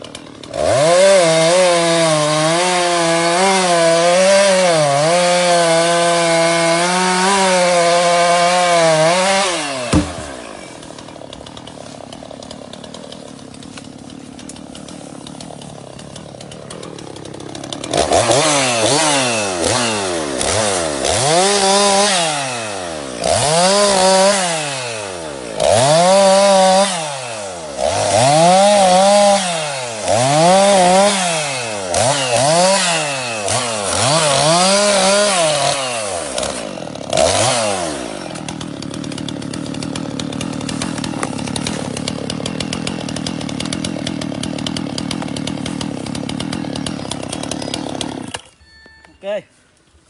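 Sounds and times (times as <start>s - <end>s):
chainsaw idling: 0.0s - 48.6s
chainsaw revving: 0.0s - 48.6s.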